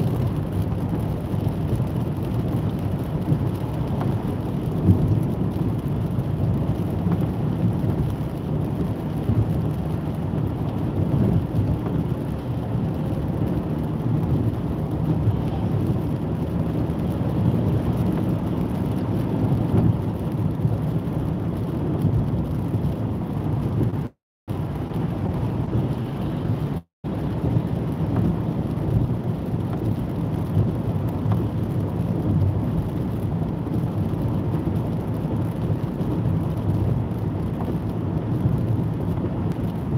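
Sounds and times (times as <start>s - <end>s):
tyre noise on wet road: 0.0s - 39.9s.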